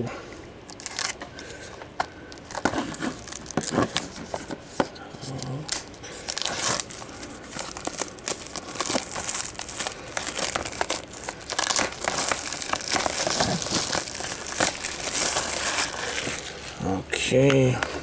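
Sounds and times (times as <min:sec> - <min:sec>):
plastic wrap crinkling: 0:00.7 - 0:18.0.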